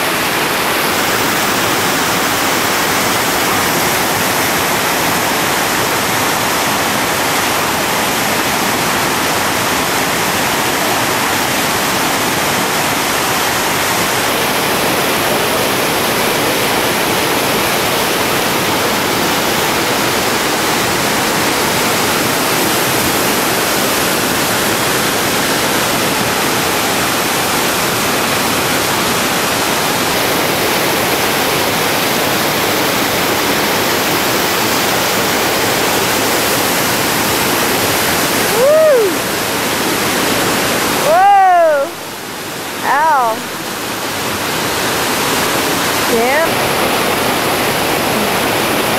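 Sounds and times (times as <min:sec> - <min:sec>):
whitewater rapids roaring: 0:00.0 - 0:48.9.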